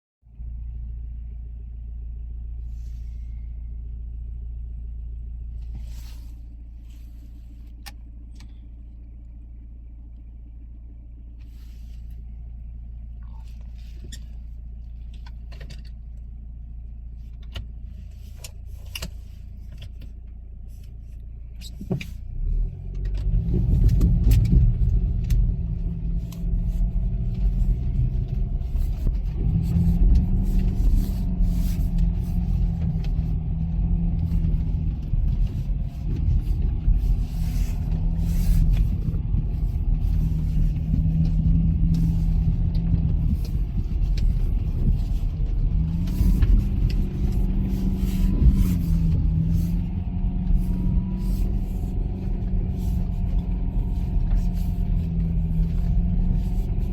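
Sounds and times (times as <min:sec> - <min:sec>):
suv engine driving off-road: 0:00.2 - 0:56.9.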